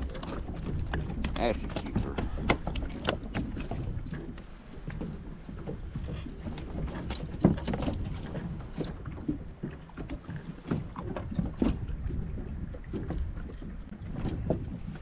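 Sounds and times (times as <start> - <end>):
waves slapping kayak hull: 0.0 - 15.0
wind rumble on microphone: 0.0 - 15.0.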